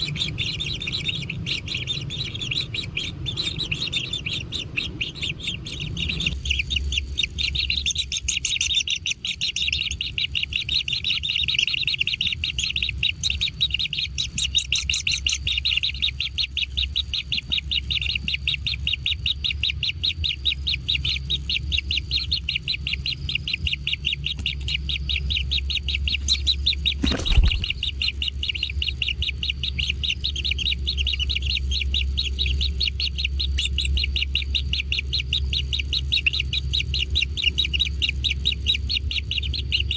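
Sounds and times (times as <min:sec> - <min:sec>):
nestlings chirping begging calls: 0:00.0 - 0:39.9
steady low hum: 0:00.0 - 0:39.9.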